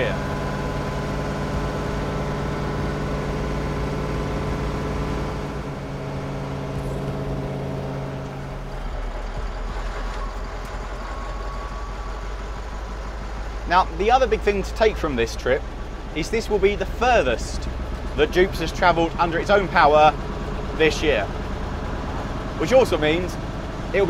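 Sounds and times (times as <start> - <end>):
fire engine engine drone: 0.0 - 24.0.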